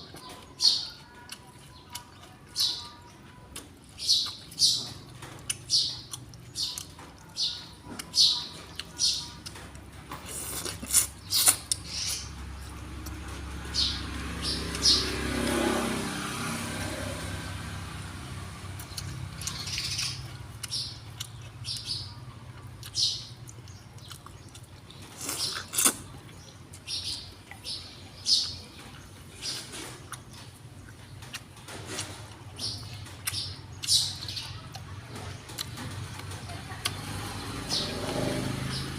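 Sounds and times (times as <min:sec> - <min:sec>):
bird chirping: 0:00.0 - 0:09.7, 0:10.3 - 0:15.8, 0:18.8 - 0:38.9.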